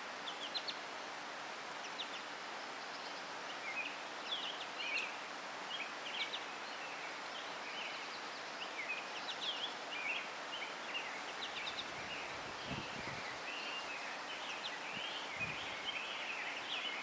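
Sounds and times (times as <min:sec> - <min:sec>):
steady outdoor hiss: 0:00.0 - 0:17.0
small birds chirping: 0:00.2 - 0:00.9, 0:01.7 - 0:17.0.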